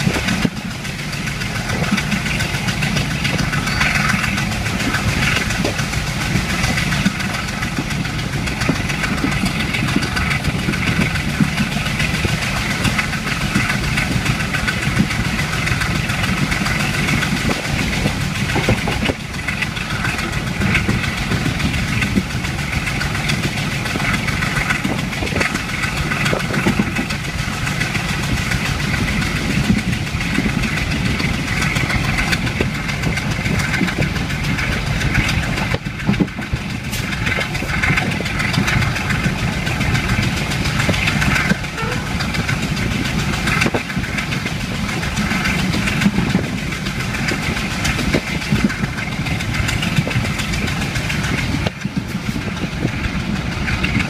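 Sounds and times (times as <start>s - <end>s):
train running from inside carriage: 0.0s - 54.0s.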